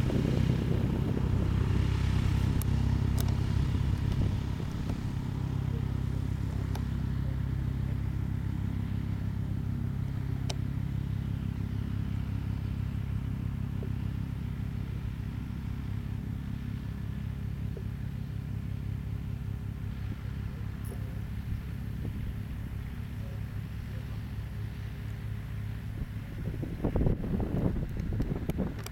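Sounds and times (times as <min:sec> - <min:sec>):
helicopter engine drone: 0:00.0 - 0:28.9
rotor pulsing: 0:00.0 - 0:28.9.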